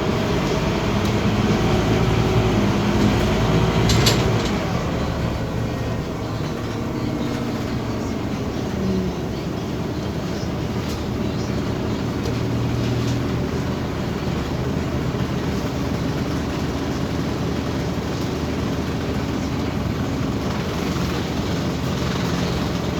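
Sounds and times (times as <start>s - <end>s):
bus engine hum: 0.0s - 22.9s
road and body noise: 0.0s - 22.9s.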